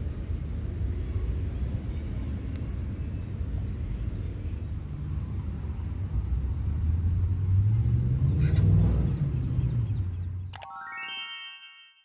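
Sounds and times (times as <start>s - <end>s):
road traffic rumble: 0.0s - 10.5s.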